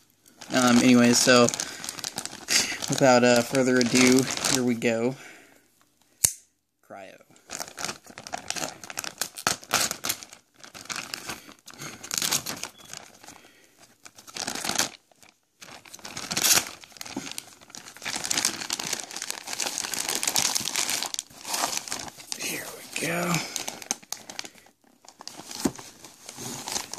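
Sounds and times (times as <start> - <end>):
plastic bag crinkling and tearing: 0.2 - 5.2, 7.4 - 26.9.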